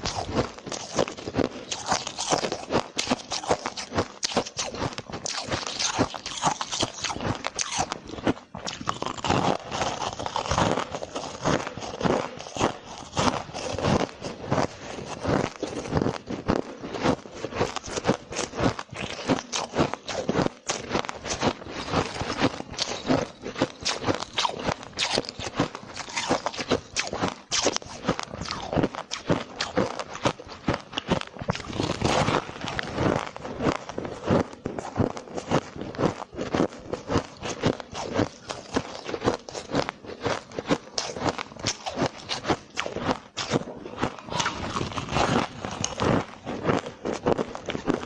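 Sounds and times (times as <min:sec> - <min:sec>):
person chewing ice: 0:00.0 - 0:48.0.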